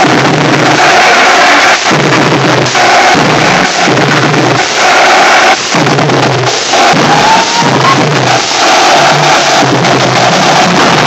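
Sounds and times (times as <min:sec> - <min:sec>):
marching drumline cadence: 0:00.0 - 0:11.0.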